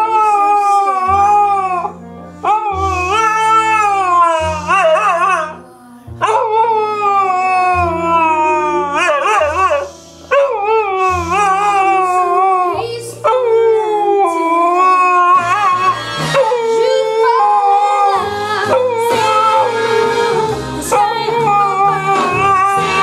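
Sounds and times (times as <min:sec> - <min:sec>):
dog howling: 0:00.0 - 0:23.0
low sustained music notes: 0:00.0 - 0:23.0.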